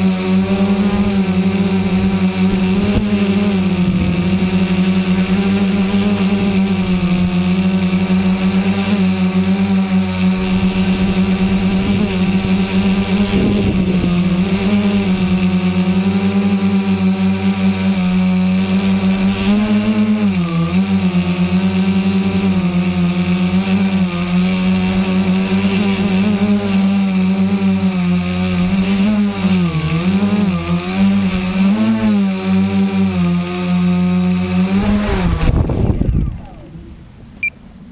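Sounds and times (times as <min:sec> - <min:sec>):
small motor buzzing: 0:00.0 - 0:36.3.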